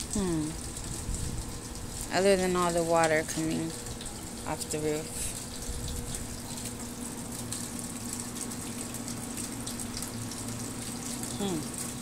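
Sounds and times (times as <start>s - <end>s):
faint steady hum: 0.0s - 12.0s
rainwater pouring off roof: 0.0s - 12.0s.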